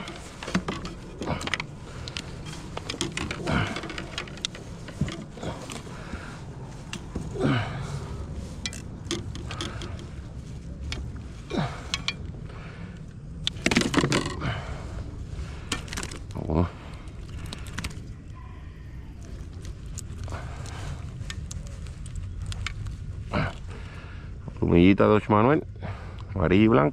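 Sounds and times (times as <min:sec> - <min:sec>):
low rumble: 0:00.0 - 0:26.9.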